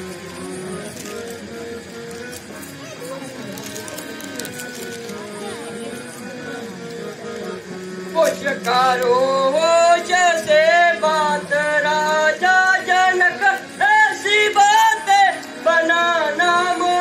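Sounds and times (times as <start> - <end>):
held accompaniment tone: 0.0 - 17.0.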